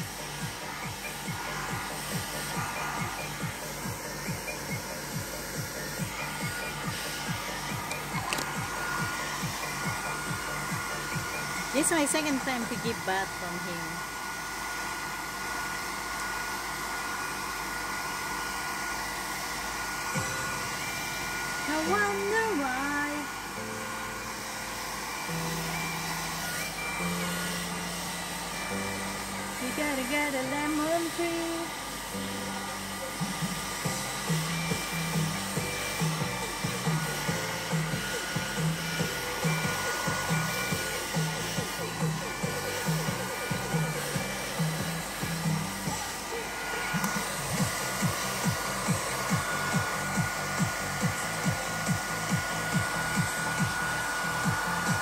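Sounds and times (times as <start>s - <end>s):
background music with steady beat: 0.0s - 17.2s, 18.2s - 55.0s
hair dryer running: 0.0s - 55.0s.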